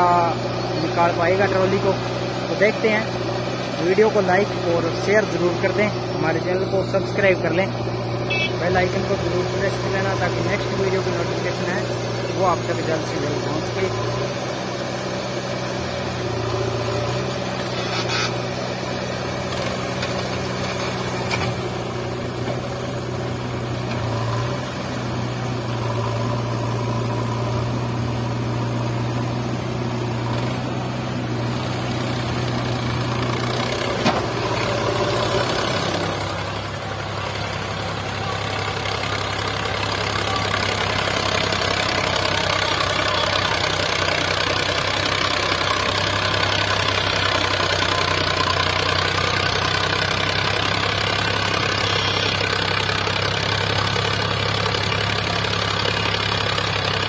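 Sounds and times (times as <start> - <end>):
diesel engines running: 0.0 - 57.0
tractor engine under heavy load: 0.0 - 57.0.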